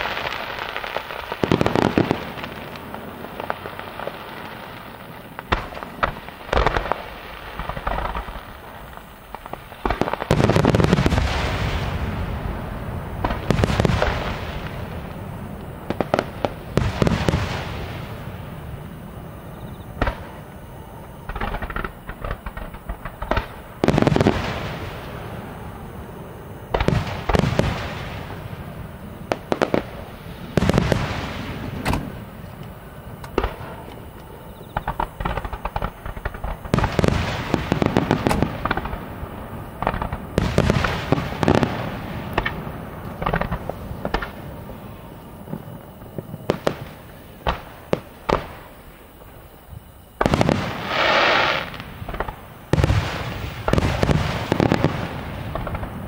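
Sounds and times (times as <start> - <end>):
firework shells booming: 0.0 - 19.1, 21.1 - 56.0
firework crackling: 0.0 - 56.0.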